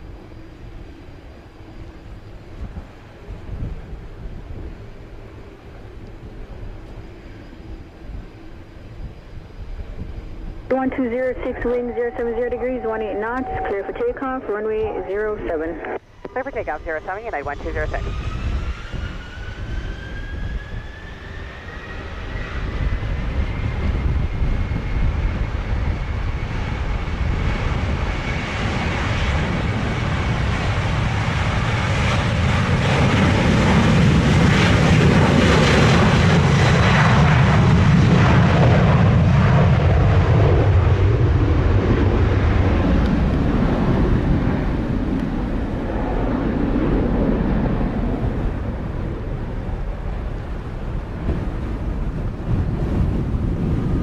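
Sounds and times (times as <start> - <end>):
jet engines spooling up: 0.0 - 54.0
jet takeoff roar: 0.0 - 54.0.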